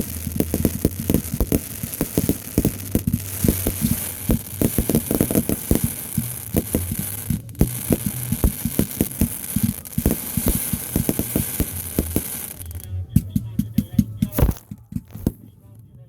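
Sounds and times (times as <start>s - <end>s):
fireworks booming and popping: 0.0s - 15.6s
steady low hum: 0.0s - 16.0s.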